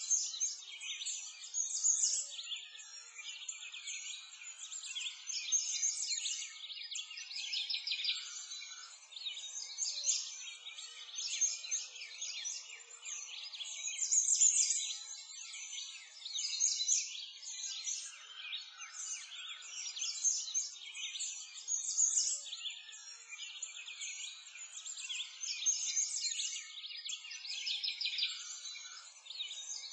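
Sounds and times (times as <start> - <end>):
small birds chirping and twittering: 0.0 - 29.9.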